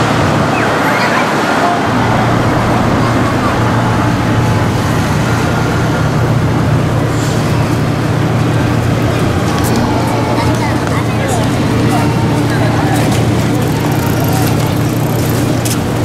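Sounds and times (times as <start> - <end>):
faint voices: 0.0 - 16.0
tram running hum: 0.0 - 16.0.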